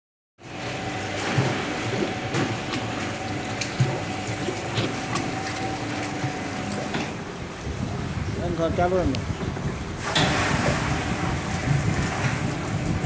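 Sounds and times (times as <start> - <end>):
churning splashing water: 0.4 - 13.0
motor hum: 0.4 - 13.0.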